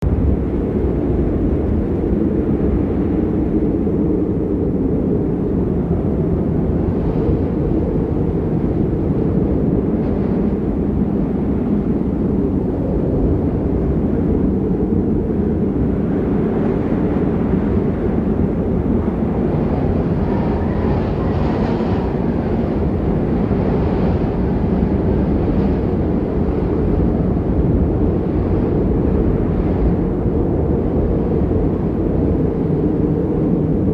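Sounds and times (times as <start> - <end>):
strong wind blowing on microphone: 0.0 - 33.9.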